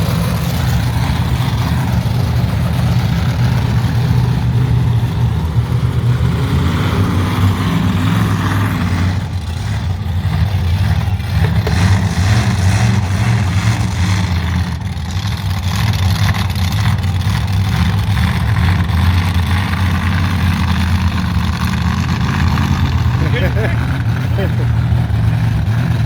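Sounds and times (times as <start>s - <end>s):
monster truck engine running: 0.0s - 26.0s.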